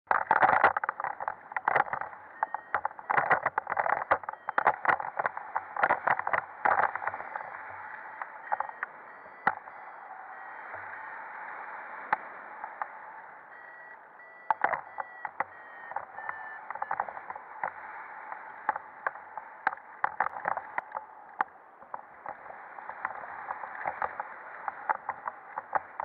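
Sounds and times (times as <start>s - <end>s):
sharp knocks and crackles: 0.1s - 9.8s, 14.4s - 26.0s
wind rushing over camera: 0.1s - 26.0s.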